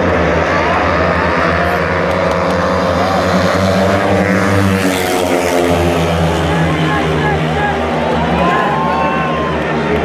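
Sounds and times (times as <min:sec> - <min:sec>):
motorcycles racing: 0:00.0 - 0:10.0.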